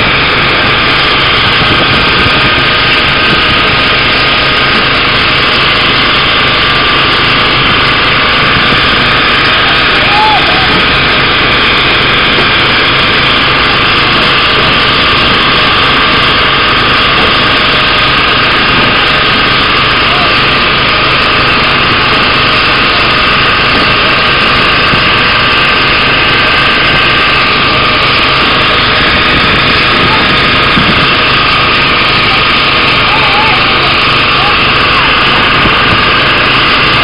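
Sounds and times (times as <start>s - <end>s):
boat engine and pumps: 0.0s - 37.0s
water sprays rushing: 0.0s - 37.0s.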